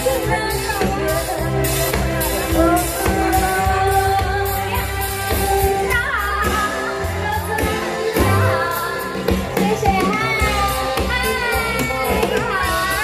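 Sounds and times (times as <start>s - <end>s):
backing track with bass and beat: 0.0s - 13.0s
woman singing pop song: 0.0s - 13.0s.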